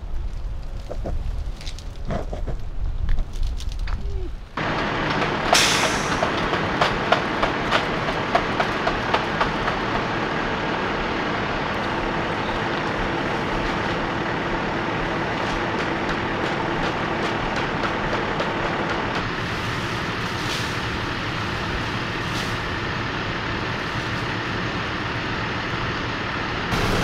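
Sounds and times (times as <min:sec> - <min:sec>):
truck engine running: 0:04.6 - 0:27.0.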